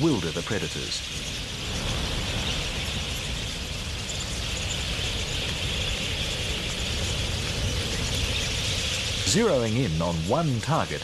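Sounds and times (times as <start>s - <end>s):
flock of parakeets chattering: 0.0s - 11.0s.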